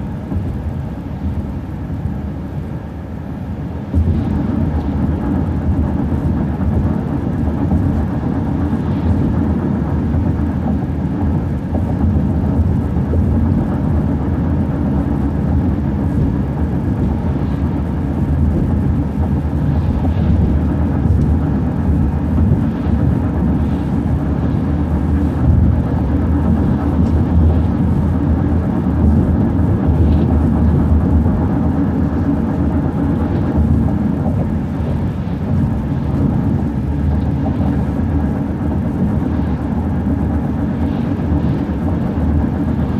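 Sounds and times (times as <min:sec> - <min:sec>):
bus engine and road rumble: 0:00.0 - 0:42.9.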